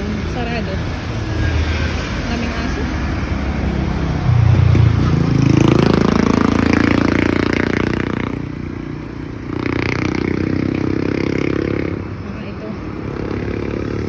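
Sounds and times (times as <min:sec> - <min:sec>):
motorcycle accelerating past: 0:01.3 - 0:14.0.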